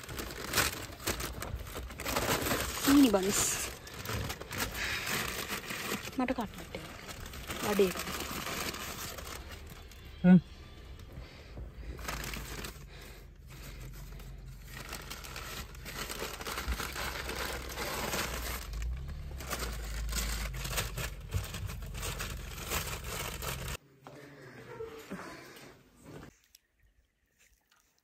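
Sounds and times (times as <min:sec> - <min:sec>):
paper bag crinkling: 0:00.0 - 0:23.8.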